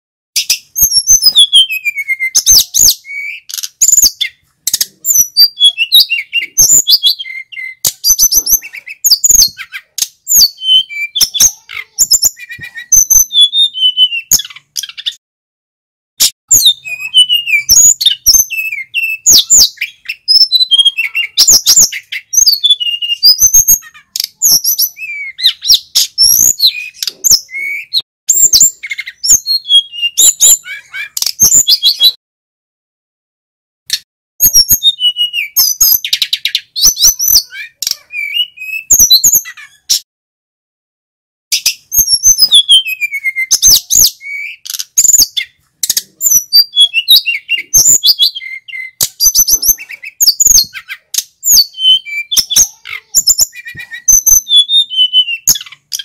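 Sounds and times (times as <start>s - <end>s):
bird singing whistles and trills: 0.4s - 15.2s, 16.5s - 32.2s, 34.4s - 40.0s, 41.5s - 56.0s.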